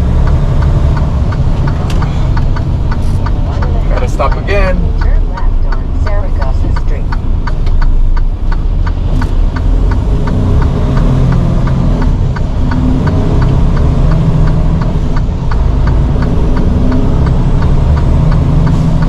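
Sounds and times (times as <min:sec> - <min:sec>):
diesel engine idling: 0:00.0 - 0:19.0
turn signal ticking: 0:00.0 - 0:19.0.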